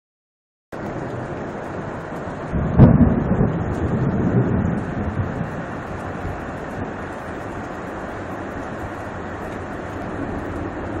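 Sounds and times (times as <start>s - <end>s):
rain hissing: 0.7s - 11.0s
thunder clap and rumble: 0.8s - 11.0s.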